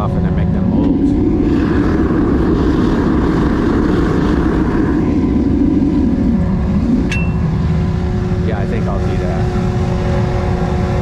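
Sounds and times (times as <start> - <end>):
furnace burner roaring: 0.0 - 11.0.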